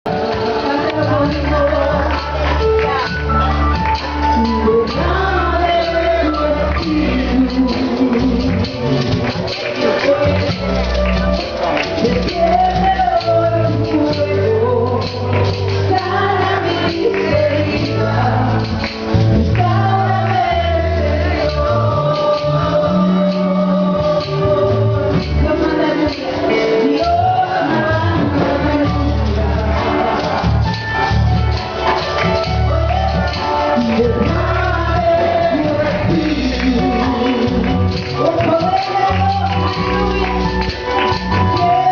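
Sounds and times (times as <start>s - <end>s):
gospel band with singing: 0.0s - 41.9s.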